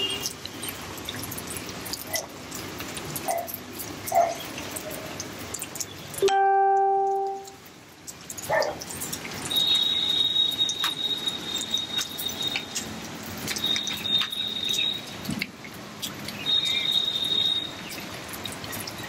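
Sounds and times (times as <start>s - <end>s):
rain on concrete roof: 0.0s - 19.0s
water drips ticking: 0.0s - 19.0s.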